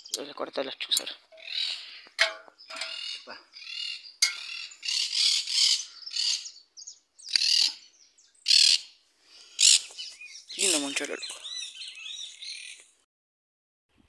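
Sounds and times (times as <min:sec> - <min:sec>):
birds giving harsh rasping calls: 0:00.9 - 0:12.9.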